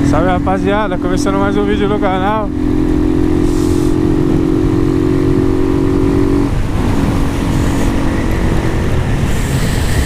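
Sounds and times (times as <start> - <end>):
motorcycle engine running: 0.0 - 10.0
wind rumble on microphone: 0.0 - 10.0.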